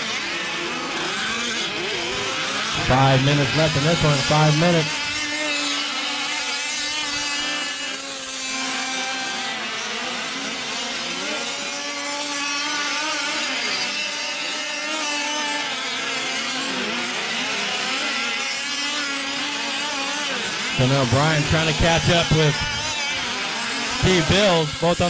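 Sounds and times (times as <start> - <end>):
small two-stroke engines buzzing: 0.0 - 25.0.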